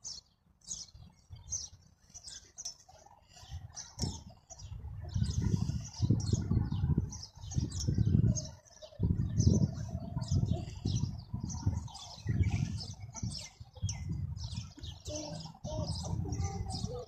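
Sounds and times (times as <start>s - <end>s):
small birds chirping: 0.0s - 17.0s
wind buffeting microphone: 0.7s - 17.0s.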